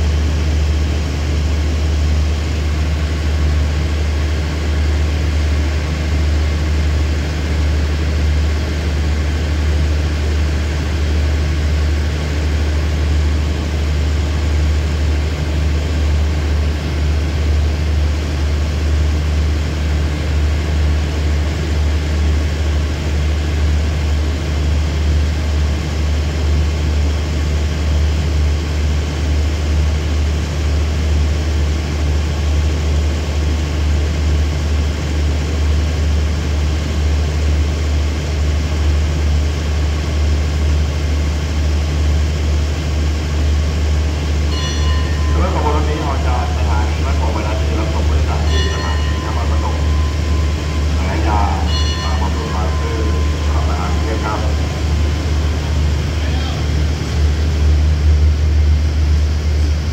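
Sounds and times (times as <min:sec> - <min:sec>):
locomotive engine idling: 0:00.0 - 0:59.9.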